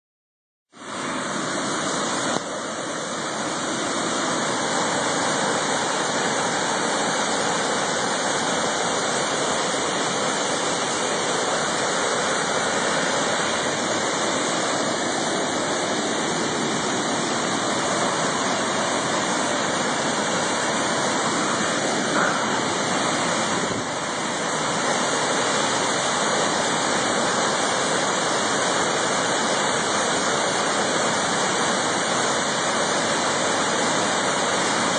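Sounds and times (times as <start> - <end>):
waterfall rushing: 0.8 - 34.9.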